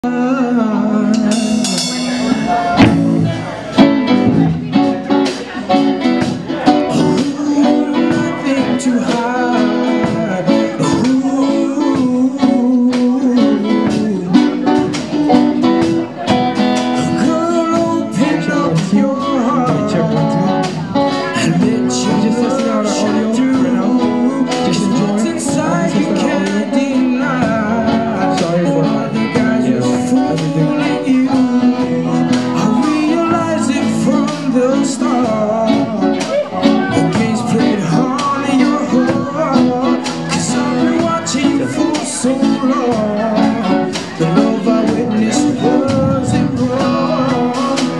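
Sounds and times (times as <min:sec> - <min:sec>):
acoustic guitar strumming: 0:00.0 - 0:47.9
live band playing: 0:00.0 - 0:47.9
person singing: 0:00.0 - 0:47.9.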